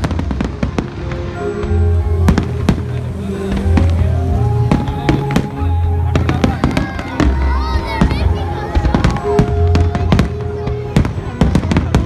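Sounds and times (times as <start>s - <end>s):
fireworks bangs and crackles: 0.0s - 12.0s
loud music with heavy bass: 1.4s - 11.5s.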